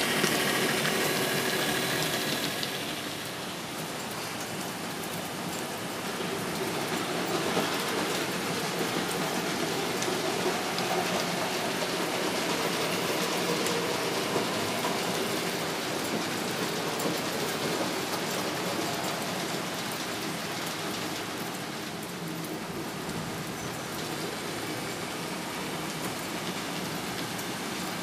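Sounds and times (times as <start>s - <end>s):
model trains running on track: 0.0s - 28.0s.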